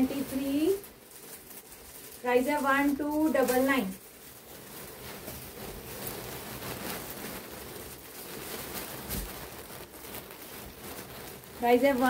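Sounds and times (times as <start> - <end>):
silk fabric rustling: 0.0 - 12.0.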